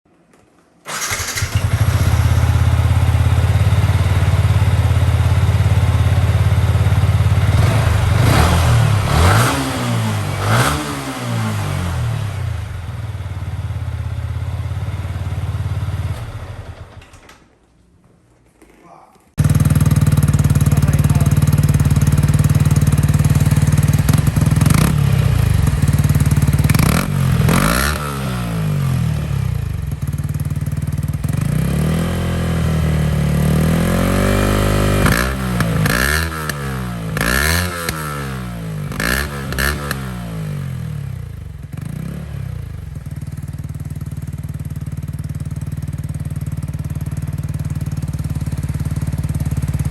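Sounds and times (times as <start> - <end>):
motorcycle engine idling and revving: 0.9 - 17.2, 19.4 - 49.9.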